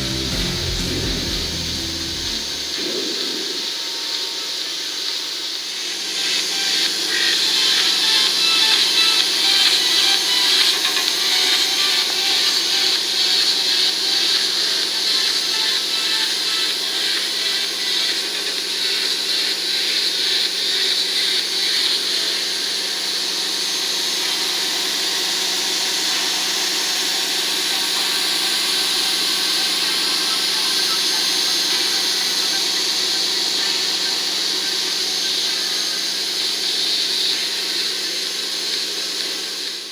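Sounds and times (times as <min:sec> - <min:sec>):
small fan motor whirring: 0:05.5 - 0:39.9.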